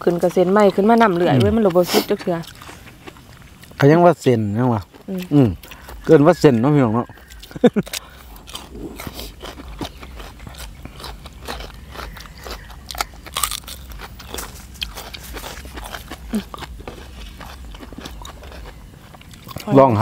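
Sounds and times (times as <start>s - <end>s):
chewing crunchy vegetables: 0.0s - 20.0s.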